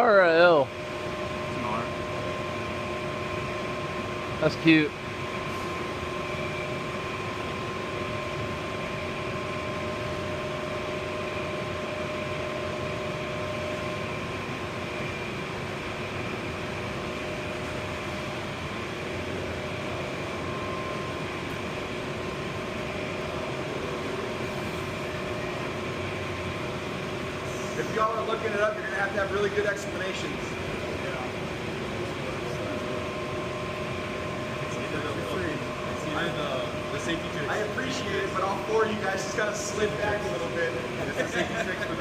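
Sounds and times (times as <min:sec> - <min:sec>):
furnace fan noise: 0:00.0 - 0:42.0
furnace whine of held tones: 0:00.0 - 0:42.0.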